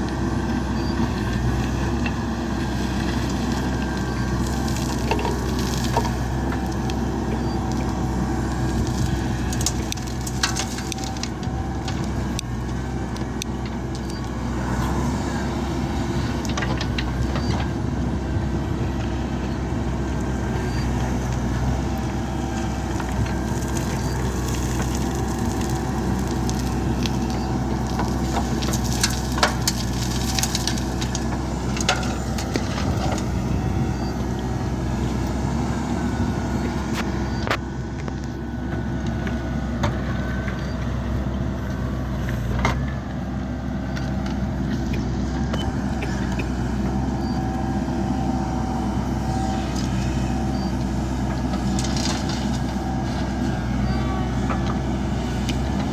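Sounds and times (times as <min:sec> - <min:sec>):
backhoe diesel engine running: 0:00.0 - 0:55.9.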